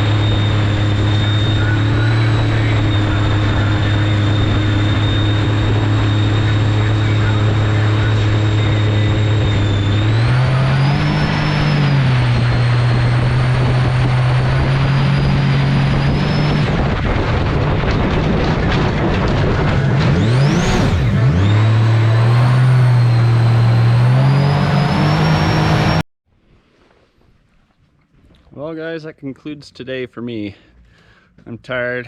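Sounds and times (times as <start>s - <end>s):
boat engine drone: 0.0s - 26.0s
wind: 0.0s - 32.0s.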